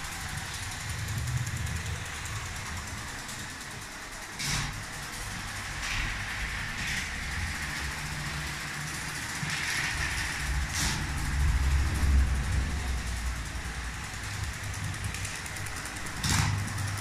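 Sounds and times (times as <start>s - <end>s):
toy electric train rumbling: 0.0s - 17.0s.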